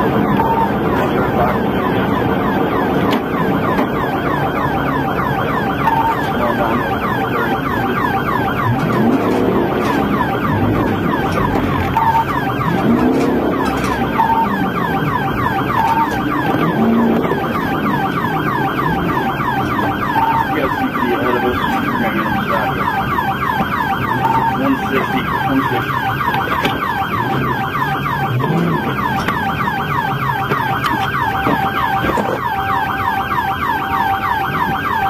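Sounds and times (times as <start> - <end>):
police siren yelping: 0.0 - 35.0
vehicle engine and road noise: 0.0 - 35.0.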